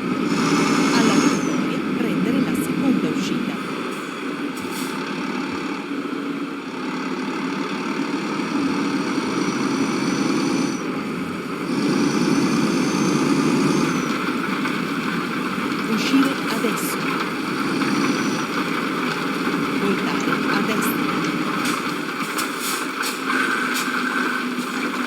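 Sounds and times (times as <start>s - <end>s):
motor droning: 0.0s - 25.0s.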